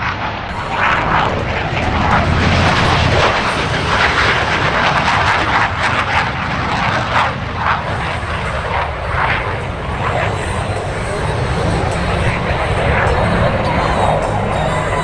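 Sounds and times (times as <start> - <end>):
airplane engine roaring: 0.0 - 15.0.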